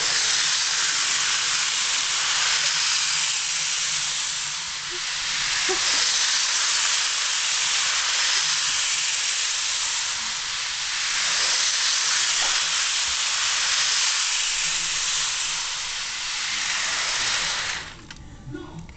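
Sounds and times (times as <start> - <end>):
model train running on track: 0.0 - 18.2.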